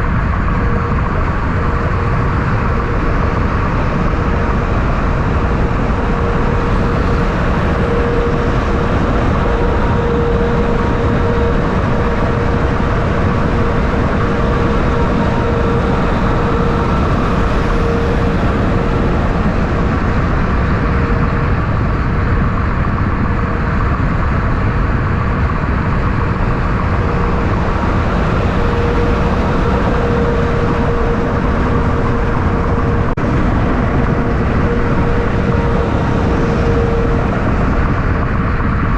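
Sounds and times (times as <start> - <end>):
constant hum: 0.0 - 38.9
steady vehicle noise: 0.0 - 38.9.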